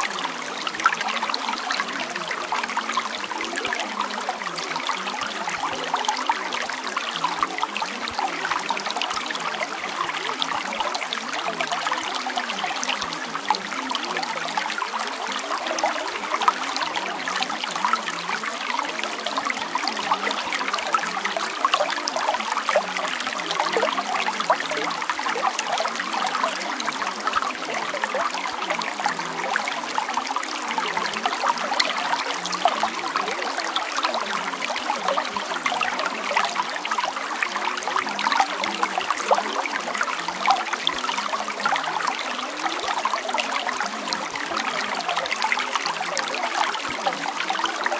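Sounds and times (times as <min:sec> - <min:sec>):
running water trickling: 0:00.0 - 0:47.9.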